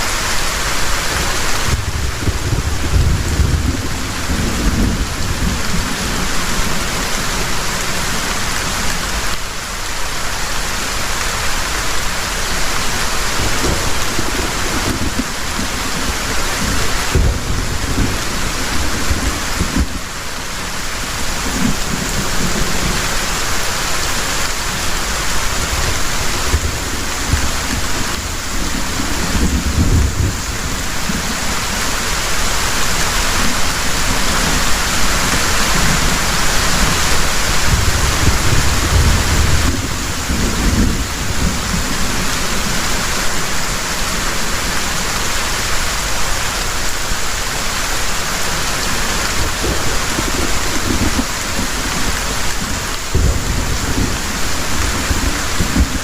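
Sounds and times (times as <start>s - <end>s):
thunder rumbles: 0.0s - 9.3s, 11.9s - 45.6s, 48.3s - 56.0s
heavy rain pouring: 0.0s - 56.0s.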